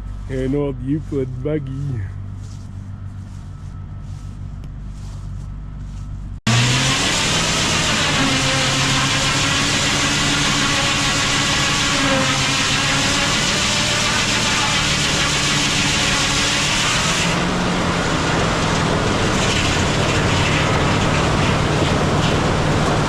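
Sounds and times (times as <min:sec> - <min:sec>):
engine idling with low hum: 0:00.0 - 0:23.0
loud close engine running: 0:00.0 - 0:23.0.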